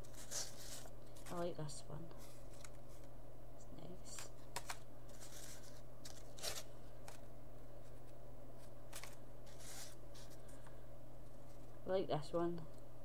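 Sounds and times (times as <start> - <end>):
cards rustling and scraping: 0.0 - 3.1, 4.0 - 11.7
steady low hum: 0.0 - 13.0.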